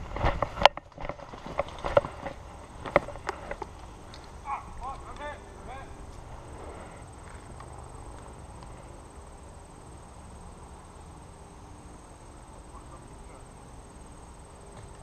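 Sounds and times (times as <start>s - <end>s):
high-pitched insect trill: 2.3s - 15.0s.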